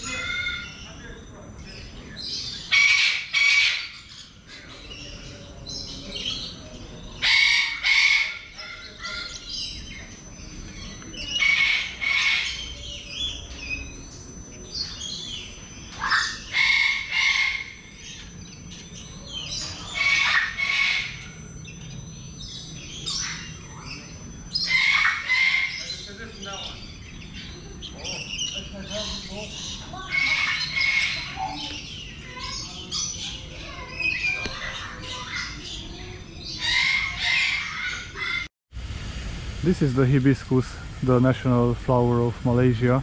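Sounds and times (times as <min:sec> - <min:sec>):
soft bird chirping: 0:00.0 - 0:38.4
loud bird calls: 0:00.0 - 0:38.5.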